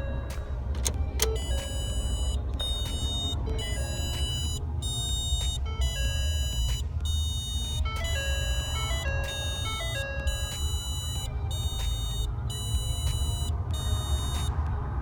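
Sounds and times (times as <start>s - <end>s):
high electronic beeping: 1.2s - 14.6s.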